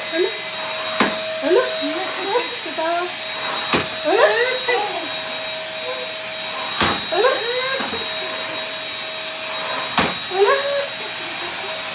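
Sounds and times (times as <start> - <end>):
vacuum cleaner running: 0.0 - 11.9.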